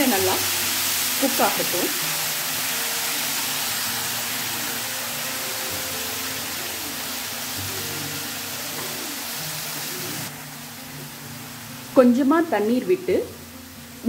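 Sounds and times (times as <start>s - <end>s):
spinach sizzling in oil: 0.0s - 14.0s.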